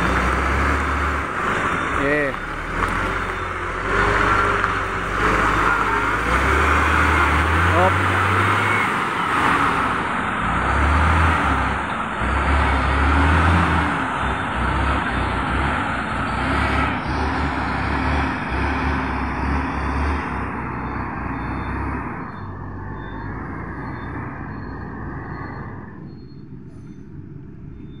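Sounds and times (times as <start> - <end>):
truck diesel engine: 0.0 - 28.0.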